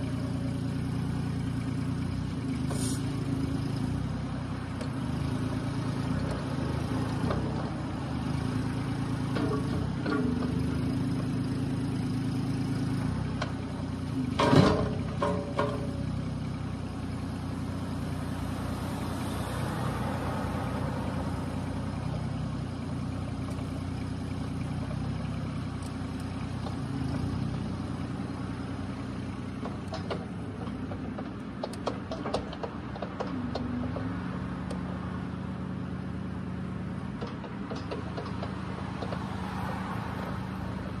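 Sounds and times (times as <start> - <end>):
mini excavator diesel engine: 0.0 - 41.0.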